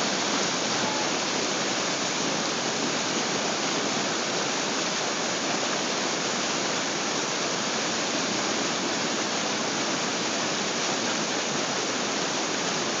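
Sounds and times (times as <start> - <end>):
floodwater rushing down rapids: 0.0 - 13.0.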